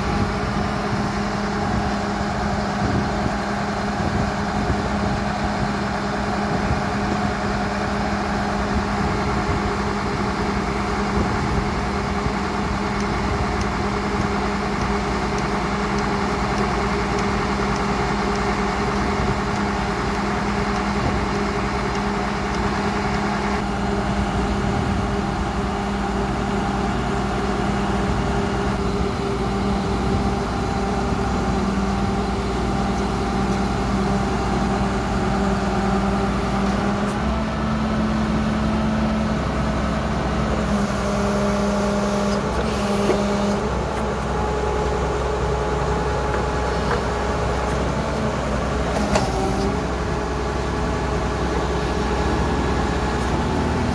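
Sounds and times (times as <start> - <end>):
drilling rig engine humming: 0.0 - 53.9.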